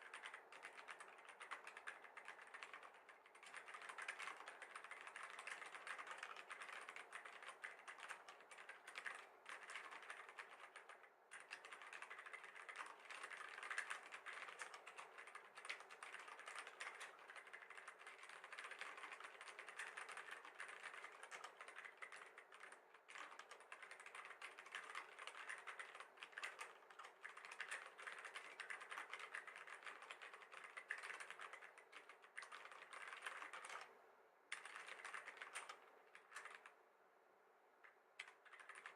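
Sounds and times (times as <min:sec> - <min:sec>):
mechanical keyboard typing: 0:00.0 - 0:33.9, 0:34.5 - 0:36.7, 0:38.2 - 0:38.9.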